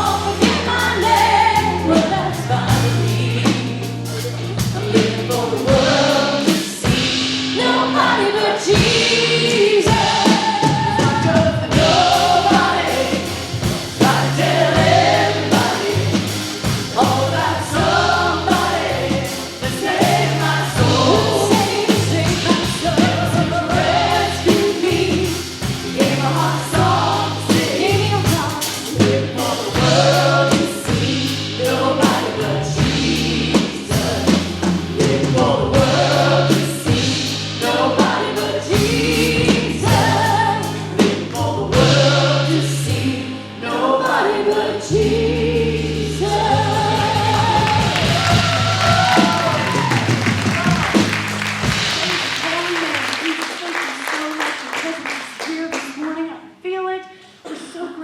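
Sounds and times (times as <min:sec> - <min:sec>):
group of voices singing: 0:00.0 - 0:51.2
band with bass and drums: 0:00.0 - 0:54.8.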